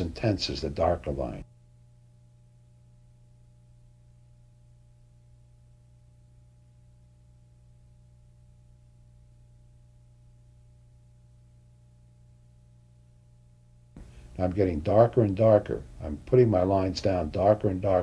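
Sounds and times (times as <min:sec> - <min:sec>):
faint low hum and hiss: 0:00.0 - 0:18.0.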